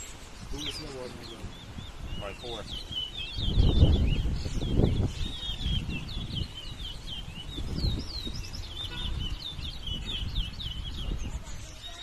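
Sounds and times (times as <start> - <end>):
finches chirping: 0.0 - 12.0.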